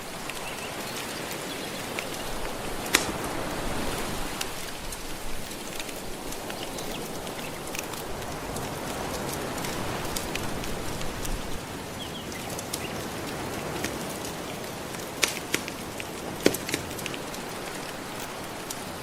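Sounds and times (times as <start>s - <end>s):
gentle ocean waves: 0.0s - 19.0s
wood fire crackling: 0.0s - 19.0s.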